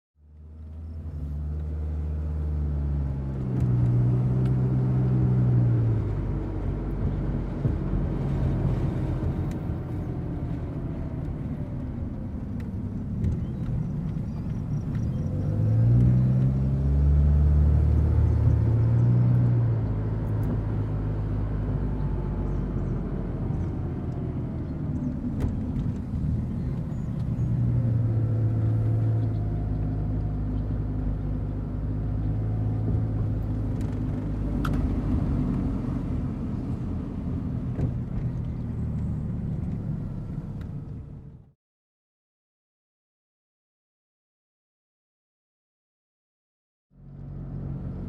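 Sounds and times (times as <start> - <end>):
vehicle engine running under load: 0.2 - 41.5.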